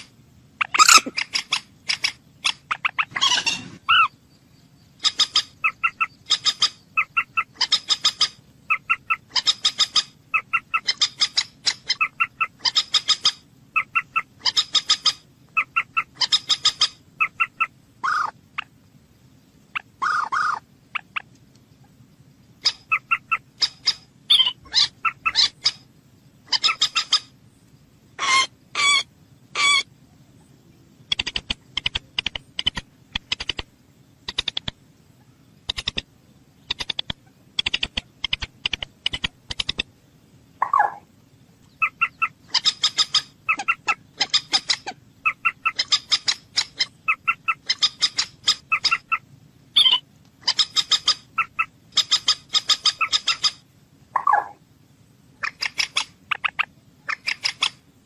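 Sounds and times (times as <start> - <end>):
moorhen calling: 0.0 - 18.8, 19.6 - 27.4, 28.1 - 39.9, 40.6 - 54.6, 55.4 - 57.9.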